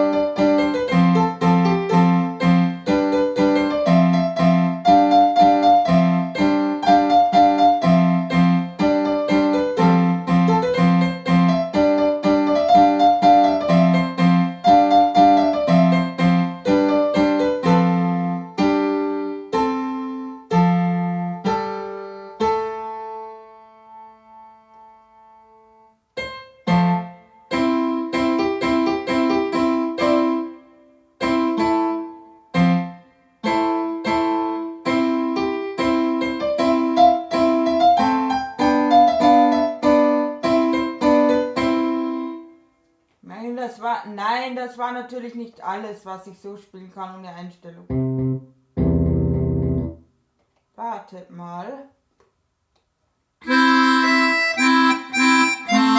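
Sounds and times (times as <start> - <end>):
electronic keyboard piano chords: 0.0 - 42.6, 47.9 - 50.0, 53.4 - 55.9.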